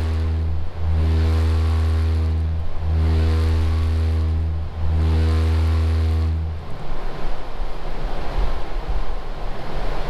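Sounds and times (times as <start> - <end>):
subwoofer low test tone hum: 0.0 - 10.0.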